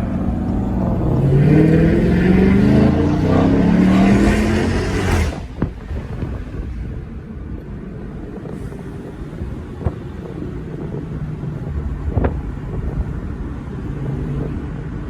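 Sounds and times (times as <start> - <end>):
car engine rumbling: 0.0 - 15.0
wind on microphone: 0.0 - 15.0.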